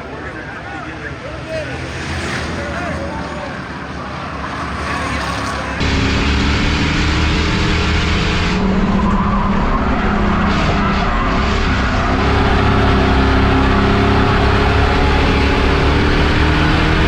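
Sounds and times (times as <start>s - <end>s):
race car engine at high revs: 0.0s - 17.0s
tyre and road noise: 0.0s - 17.0s.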